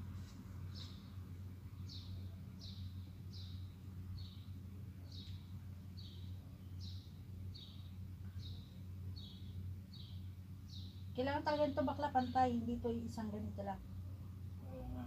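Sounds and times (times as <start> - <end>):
low electrical hum: 0.0 - 15.0
bird chirping: 0.7 - 13.8.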